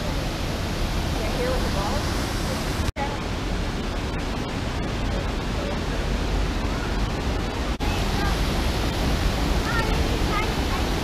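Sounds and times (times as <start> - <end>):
creek tumbling over cascades: 0.0 - 11.0.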